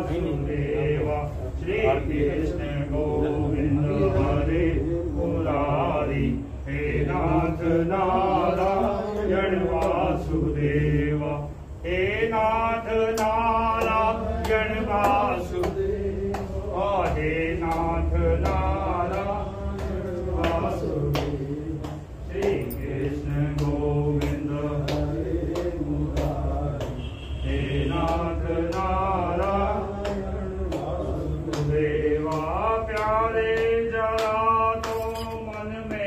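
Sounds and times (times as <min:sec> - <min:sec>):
voices singing a chant: 0:00.0 - 0:36.0.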